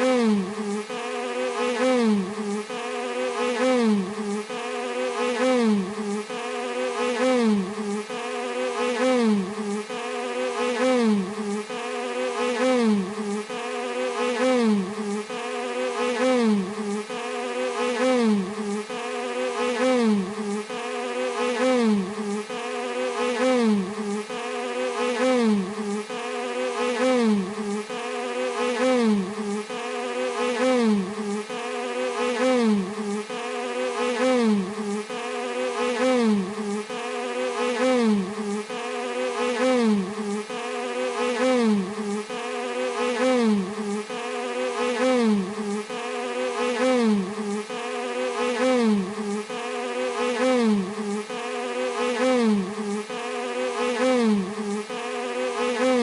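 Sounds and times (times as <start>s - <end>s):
bee buzzing: 0.0s - 56.0s.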